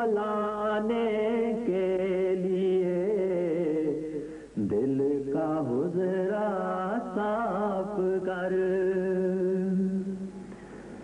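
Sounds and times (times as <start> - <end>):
person singing devotional song: 0.0 - 10.7.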